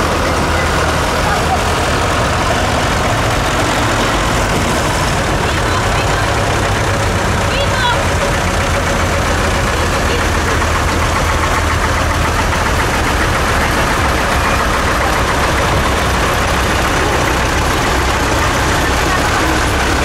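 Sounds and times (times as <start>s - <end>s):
diesel tractor engines rumbling: 0.0s - 20.0s.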